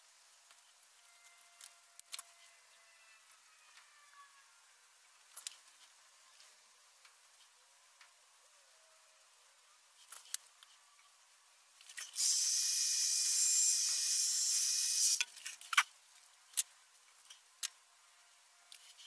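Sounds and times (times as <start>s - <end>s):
steady hiss: 0.0s - 2.6s, 4.7s - 19.0s.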